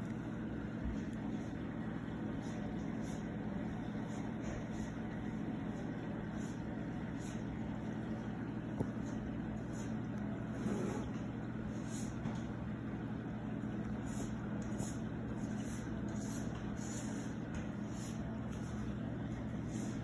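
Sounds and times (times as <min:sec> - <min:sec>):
aquarium pumps humming: 0:00.0 - 0:20.0.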